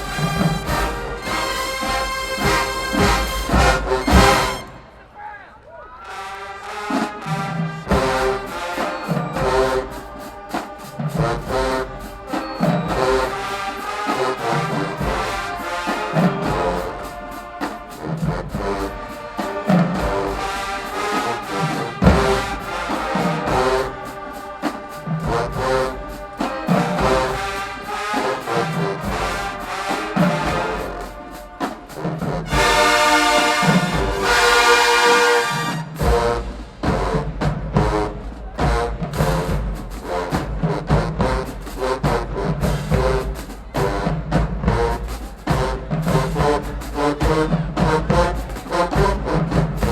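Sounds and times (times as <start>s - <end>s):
trombones and trumpets: 0.0s - 49.9s.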